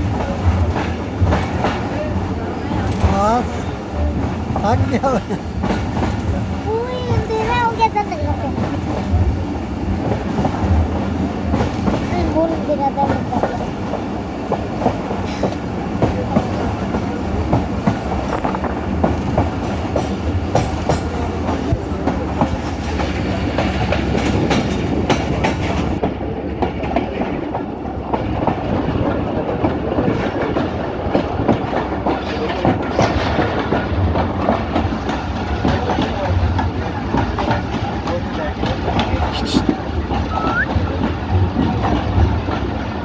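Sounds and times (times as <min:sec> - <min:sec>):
train rumbling on track: 0:00.0 - 0:43.0.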